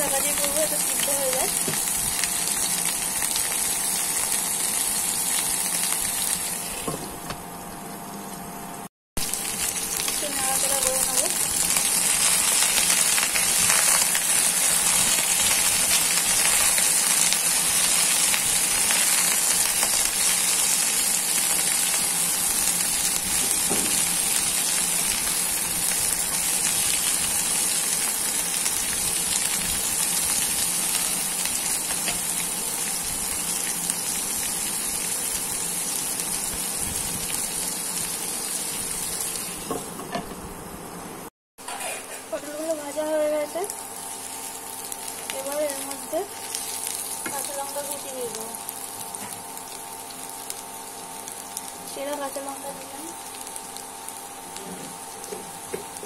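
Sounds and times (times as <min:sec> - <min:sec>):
vegetable pieces sizzling in oil: 0:00.0 - 0:07.2, 0:09.2 - 0:40.5, 0:41.6 - 0:56.0.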